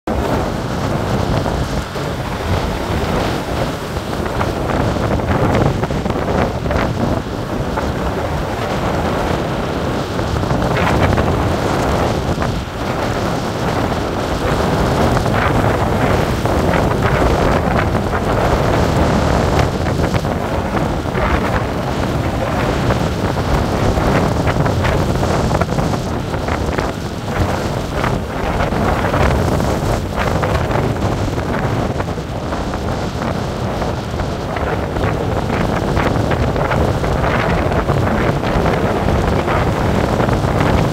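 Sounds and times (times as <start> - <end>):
wind buffeting microphone: 0.0 - 40.9
storm surf breaking: 0.1 - 40.9.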